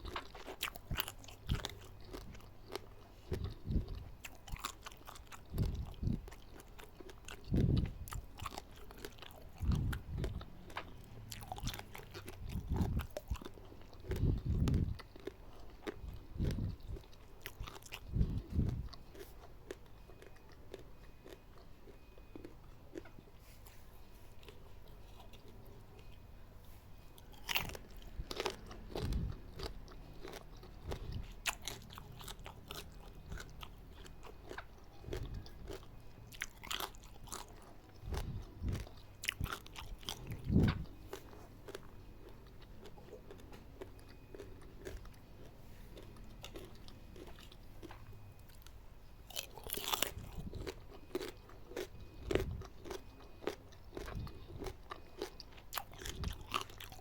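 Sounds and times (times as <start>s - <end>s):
crunchy bites: 0.0s - 23.2s, 27.2s - 57.0s
steady chewing: 0.0s - 57.0s.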